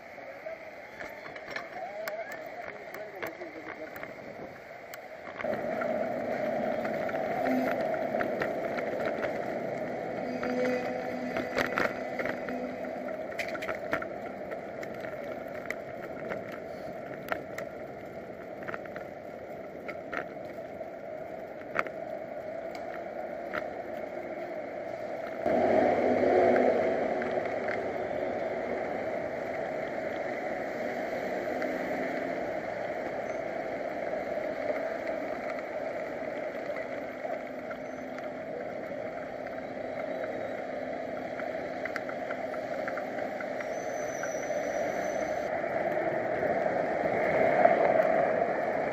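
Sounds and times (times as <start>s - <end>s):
wind rush: 0.0s - 43.7s, 44.4s - 48.9s
bicycle road noise: 0.0s - 48.9s.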